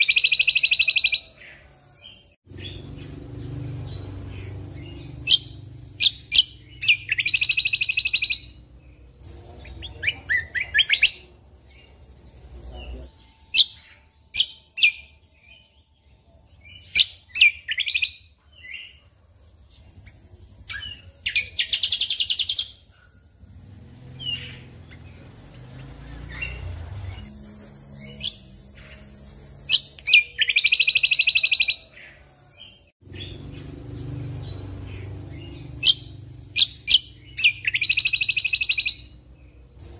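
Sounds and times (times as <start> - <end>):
bird singing with trills: 0.0 - 39.9.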